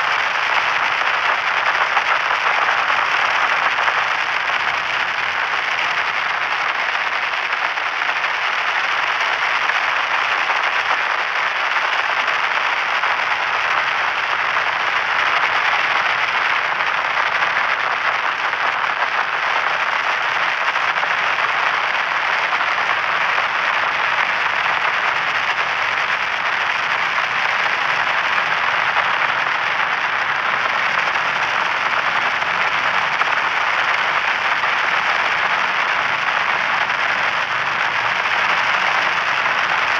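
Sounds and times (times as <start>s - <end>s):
white noise static: 0.0s - 39.9s.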